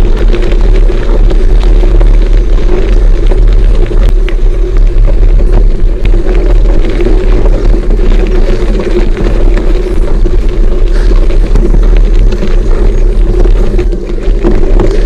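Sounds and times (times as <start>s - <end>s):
bike tyres rumbling on gravel: 0.0s - 15.0s
small rattles and clicks: 0.0s - 15.0s.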